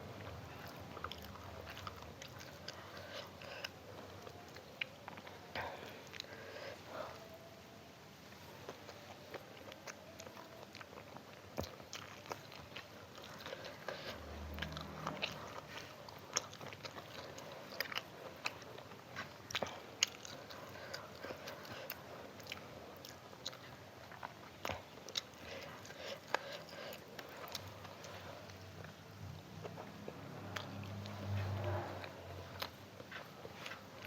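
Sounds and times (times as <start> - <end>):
person chewing and crunching: 0.0 - 7.4, 8.3 - 34.0.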